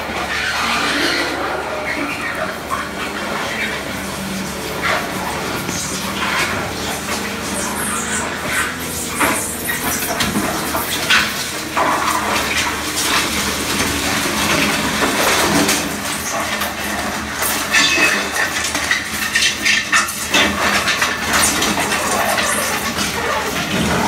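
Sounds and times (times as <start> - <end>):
steel tracks clanking and screeching: 0.0 - 24.0.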